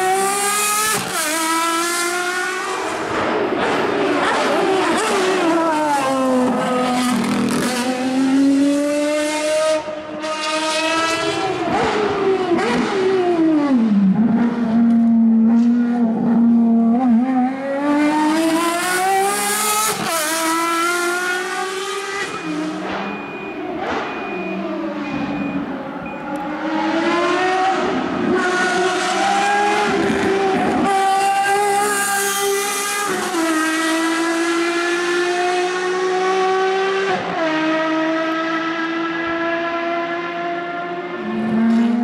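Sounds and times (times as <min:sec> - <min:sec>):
race car engine accelerating and slowing: 0:00.0 - 0:42.0.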